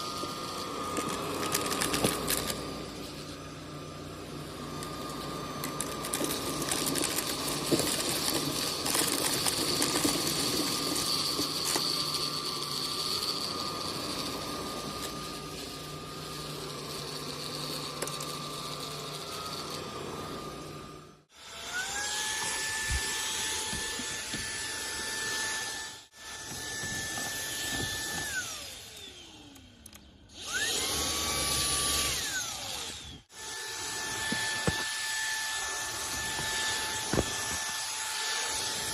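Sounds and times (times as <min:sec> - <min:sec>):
stick vacuum whining: 0:00.0 - 0:38.9.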